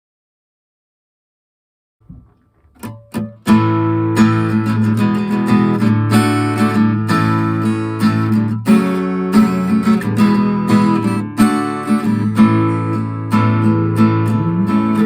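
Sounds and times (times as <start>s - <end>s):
acoustic guitar strumming chords: 2.1s - 15.0s.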